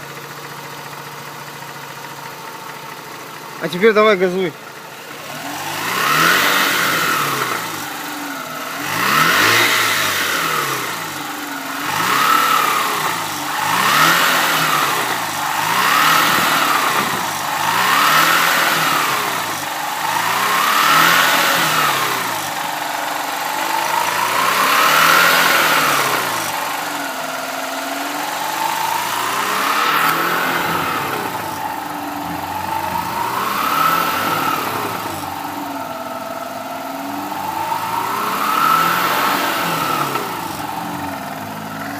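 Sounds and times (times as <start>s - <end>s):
rotary engine revving: 3.6s - 41.9s.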